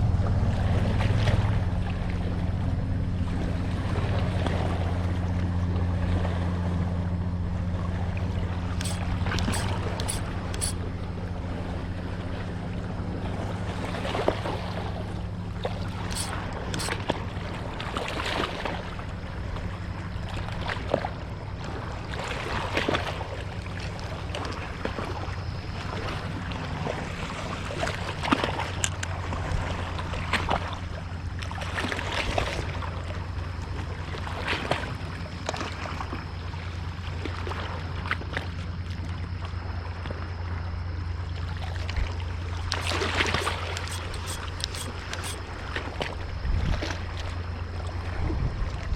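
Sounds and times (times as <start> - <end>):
boat engine idling: 0.0 - 48.9.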